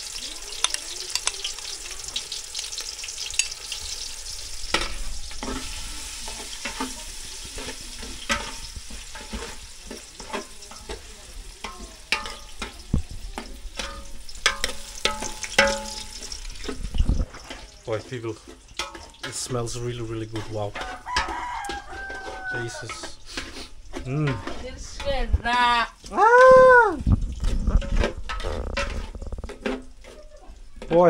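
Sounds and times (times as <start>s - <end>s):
food sizzling in hot oil: 0.0s - 31.0s
spoon scraping a pot: 0.1s - 25.5s, 27.2s - 31.0s.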